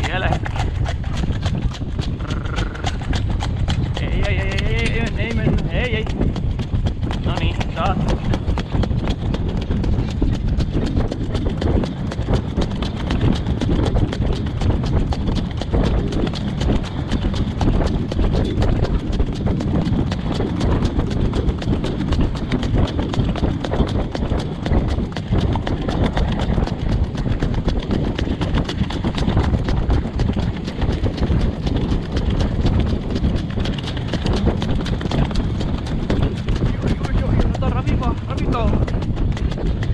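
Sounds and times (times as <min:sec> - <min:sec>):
hooves clip-clopping on dirt: 0:00.0 - 0:39.9
wind rumbling on microphone: 0:00.0 - 0:39.9.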